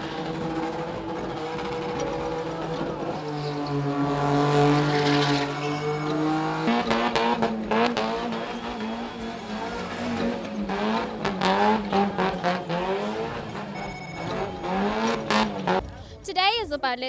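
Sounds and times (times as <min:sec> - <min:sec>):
car engine revving high: 0:00.0 - 0:16.8
tyre squeal: 0:00.0 - 0:16.8.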